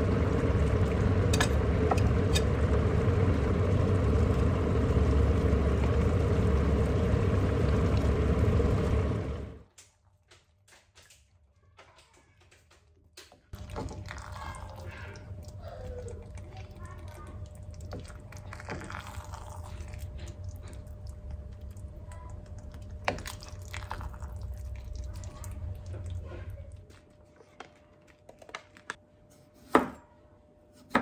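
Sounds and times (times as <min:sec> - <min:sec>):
low steady hum: 0:00.0 - 0:09.6, 0:13.6 - 0:30.8.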